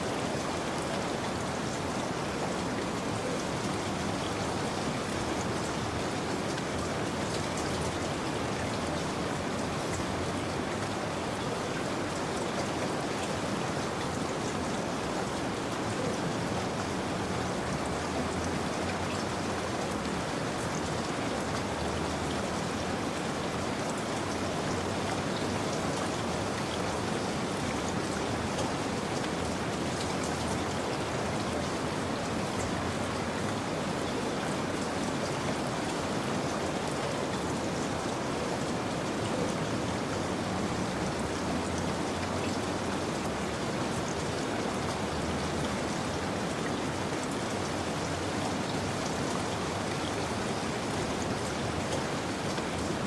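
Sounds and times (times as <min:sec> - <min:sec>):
rain pattering: 0:00.0 - 0:53.0.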